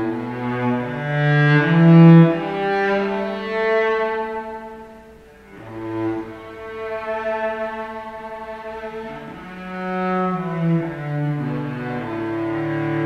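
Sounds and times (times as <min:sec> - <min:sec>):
cello bowed notes: 0:00.0 - 0:13.0.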